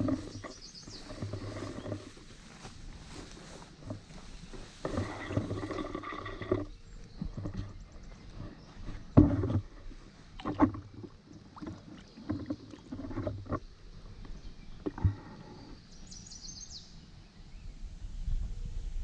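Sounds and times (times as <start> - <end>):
water splashing and sloshing: 0.0 - 15.7.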